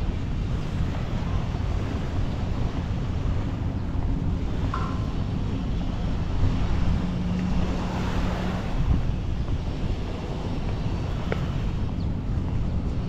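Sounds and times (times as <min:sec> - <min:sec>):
beach ambience: 0:00.0 - 0:13.0
low motor hum: 0:00.0 - 0:13.0
wind buffeting microphone: 0:00.0 - 0:13.0.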